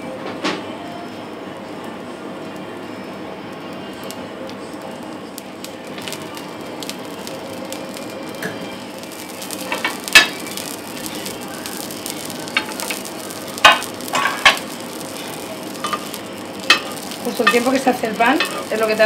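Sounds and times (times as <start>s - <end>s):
spitting oil crackles: 1.7s - 19.0s
fish frying in oil sizzling: 3.4s - 19.0s.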